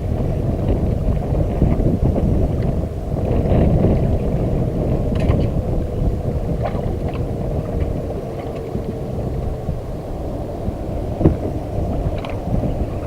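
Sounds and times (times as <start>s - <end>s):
faint steady hum: 0.0s - 13.0s
wind rumbling on microphone: 0.0s - 13.0s.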